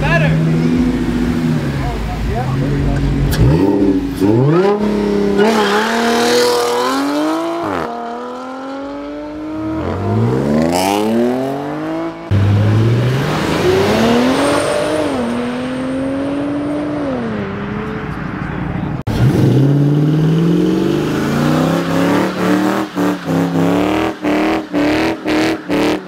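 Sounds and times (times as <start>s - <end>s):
car engines revving high: 0.0s - 26.0s.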